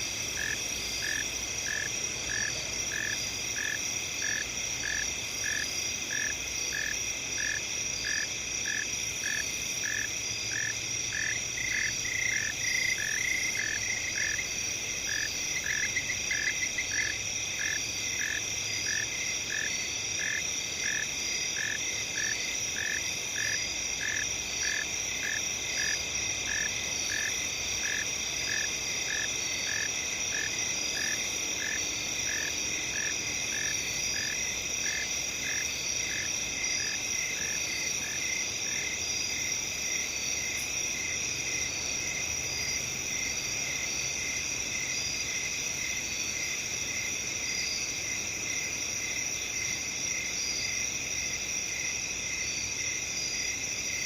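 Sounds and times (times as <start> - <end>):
cricket chirps: 0.0 - 54.0
insect trills: 0.0 - 54.0.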